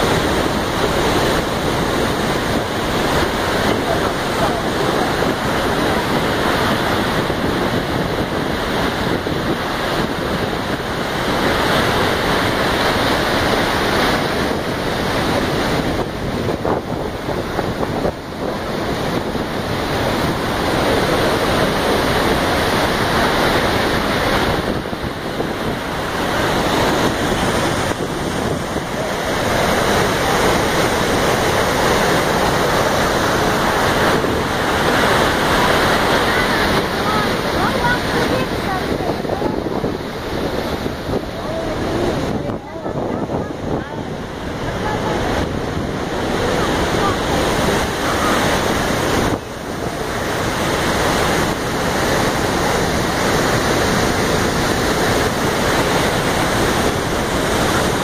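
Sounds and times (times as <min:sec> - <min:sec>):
waterfall roar: 0:00.0 - 0:58.0
wind noise on microphone: 0:00.0 - 0:58.0.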